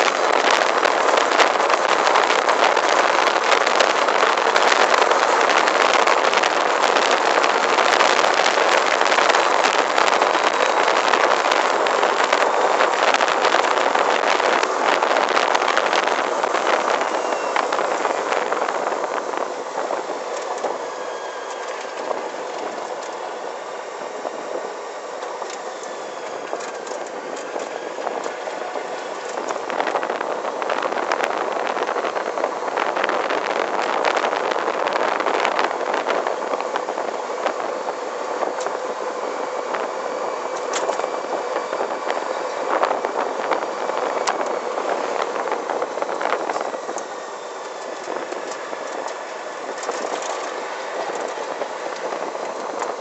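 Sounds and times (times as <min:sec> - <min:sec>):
electric motor whine: 0:00.0 - 0:53.0
tyre road and wind noise: 0:00.0 - 0:53.0.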